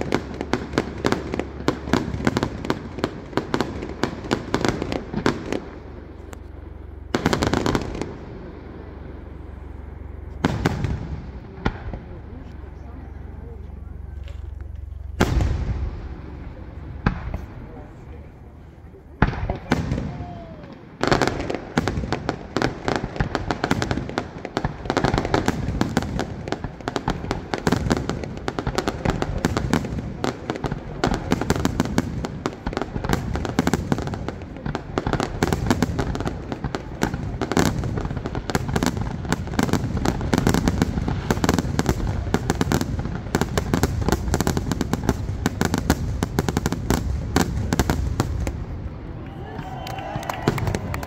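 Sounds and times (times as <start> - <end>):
fireworks bursting in rapid barrage: 0.0 - 51.0.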